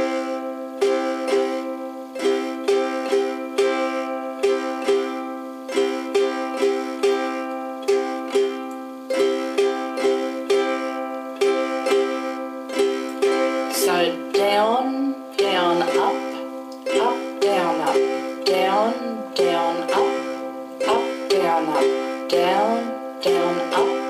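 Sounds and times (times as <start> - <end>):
ukulele strumming: 0.0 - 24.0.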